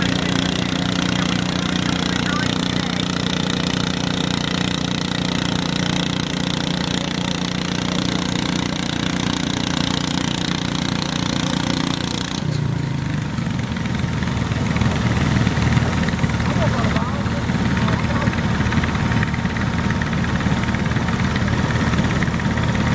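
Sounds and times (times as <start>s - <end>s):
garden tractor engine running: 0.0s - 22.9s.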